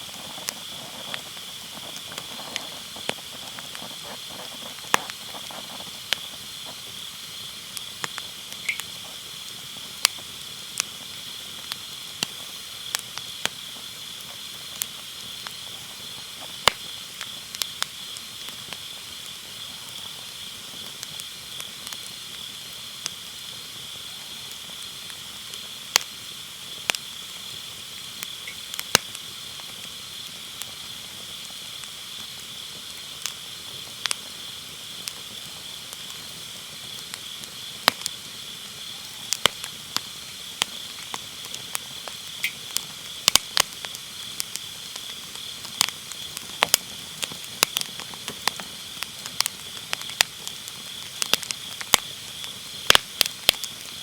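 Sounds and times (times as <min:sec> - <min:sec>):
firewood crackling and popping: 0:00.0 - 0:54.0
night insects chorus: 0:00.0 - 0:54.0.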